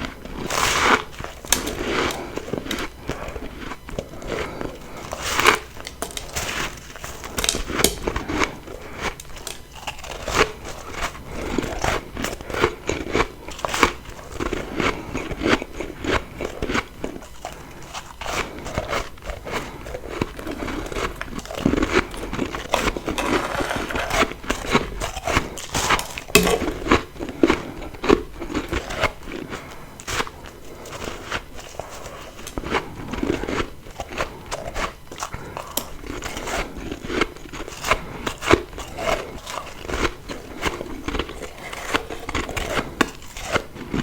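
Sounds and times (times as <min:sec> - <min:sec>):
chewing crunchy frost: 0:00.0 - 0:44.0.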